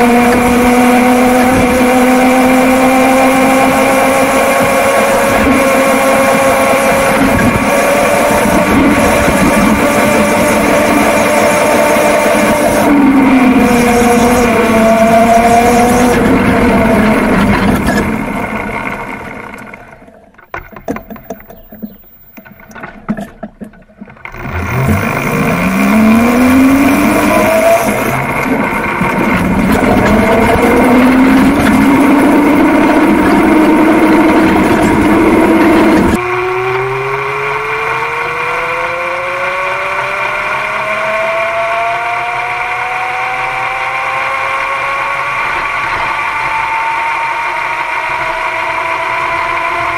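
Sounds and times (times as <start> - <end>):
electric motor whine: 0.0 - 22.6, 24.2 - 49.9.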